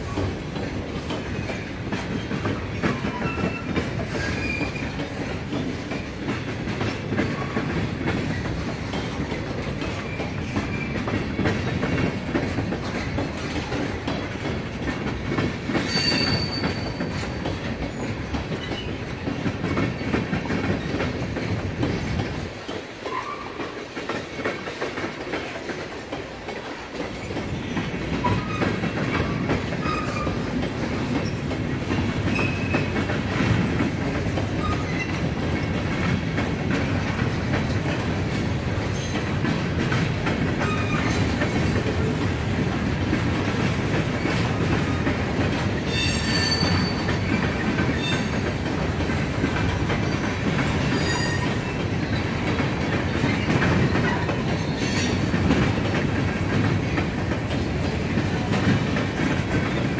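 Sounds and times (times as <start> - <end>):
train wheel squeal: 0.0 - 24.8, 27.0 - 37.0, 37.6 - 39.4, 40.6 - 42.2, 43.0 - 59.9
low train rumble: 0.0 - 59.9
train wheels clicking over rails: 0.0 - 59.9.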